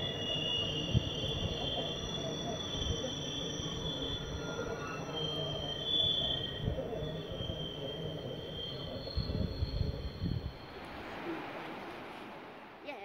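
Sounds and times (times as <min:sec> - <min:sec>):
train wheels squealing: 0:00.0 - 0:12.5.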